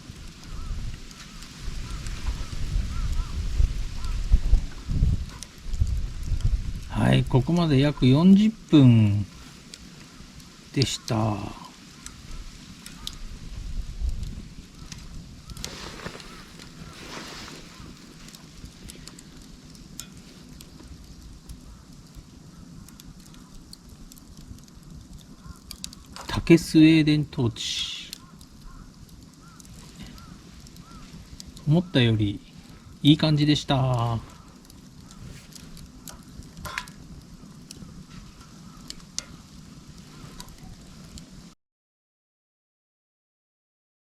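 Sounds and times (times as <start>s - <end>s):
fire crackling and popping: 0.0s - 41.6s.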